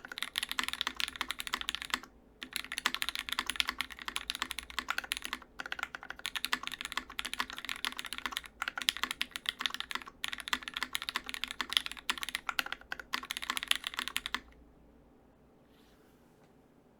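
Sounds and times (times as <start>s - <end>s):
fast typing on mechanical keyboard: 0.0s - 14.6s.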